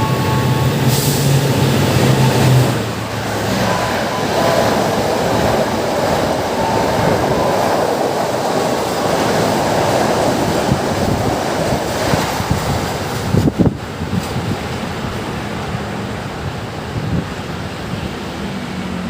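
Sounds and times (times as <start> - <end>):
train rumbling past on rails: 0.0 - 19.0.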